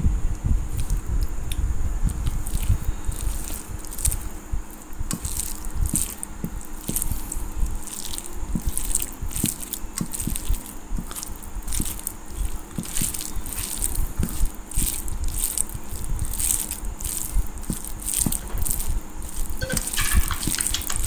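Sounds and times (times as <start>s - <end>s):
fingers squishing rice: 0.4s - 21.0s
chewing: 0.7s - 21.0s.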